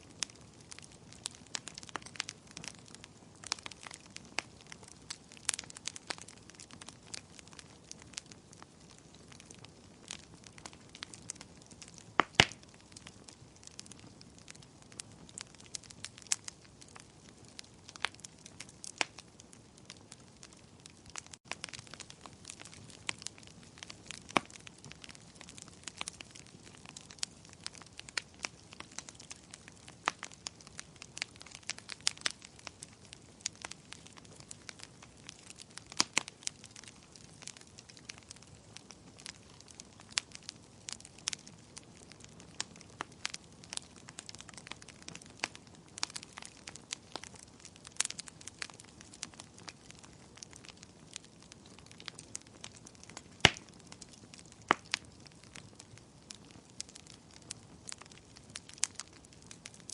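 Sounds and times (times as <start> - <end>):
fire popping and snapping: 0.0 - 59.9
soft hiss of fire: 0.0 - 59.9.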